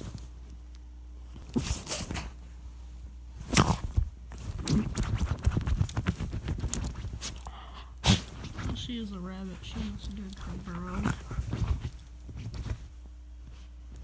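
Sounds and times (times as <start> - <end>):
dog paws scraping fabric: 1.3 - 14.0.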